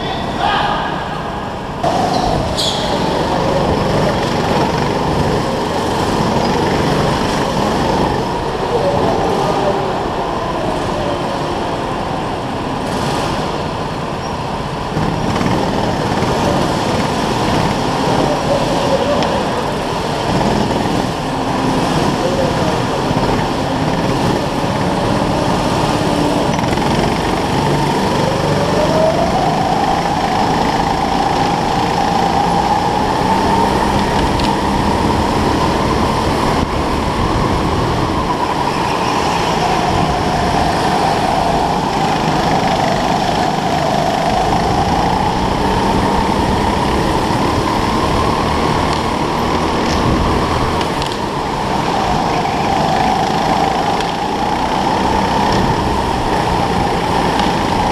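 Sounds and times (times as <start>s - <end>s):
go-kart motor whine: 0.0s - 57.9s
rushing rattling noise: 0.0s - 57.9s.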